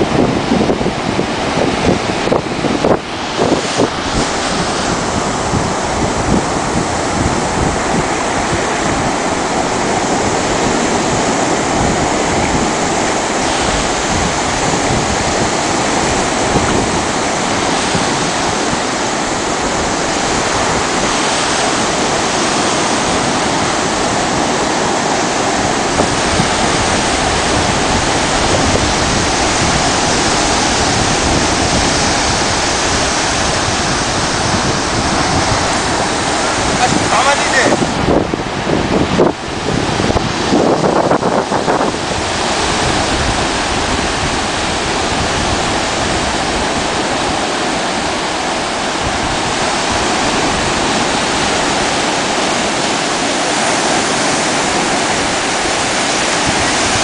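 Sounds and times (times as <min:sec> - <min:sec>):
surf breaking on beach: 0:00.0 - 0:57.0
wind rumbling on microphone: 0:00.0 - 0:57.0.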